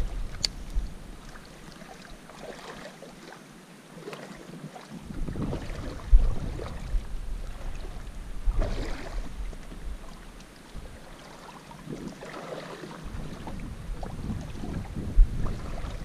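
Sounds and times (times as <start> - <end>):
wind rumbling on microphone: 0.0 - 1.5, 4.5 - 16.0
river water: 0.0 - 16.0.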